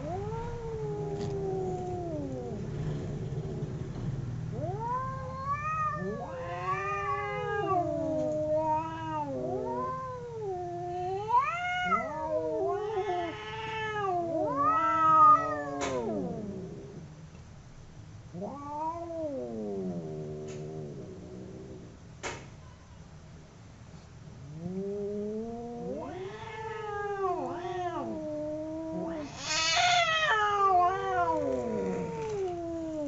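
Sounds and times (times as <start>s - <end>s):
cats yowling in a fight: 0.0s - 3.7s, 4.5s - 17.0s, 18.3s - 22.0s, 24.5s - 33.0s.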